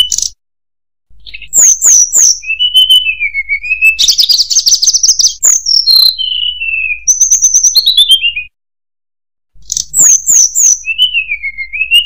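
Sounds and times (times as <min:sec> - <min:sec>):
bird singing whistled notes: 0:00.0 - 0:00.4, 0:01.2 - 0:08.6, 0:09.6 - 0:12.0.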